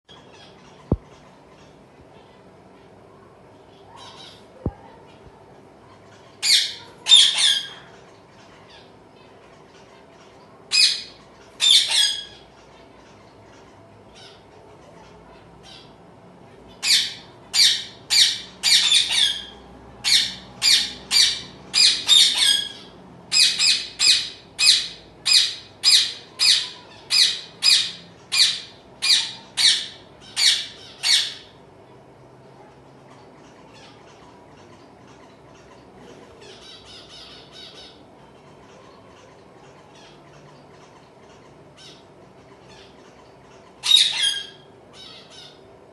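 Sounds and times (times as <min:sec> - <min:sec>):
faint steady hum: 0:00.1 - 0:45.9.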